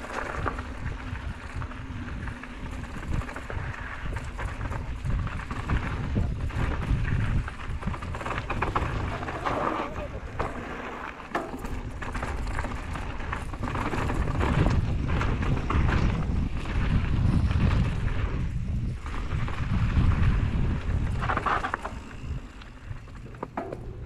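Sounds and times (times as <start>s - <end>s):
bike tyres crunching over stones: 0.0s - 24.0s
wind buffeting microphone: 0.0s - 24.0s.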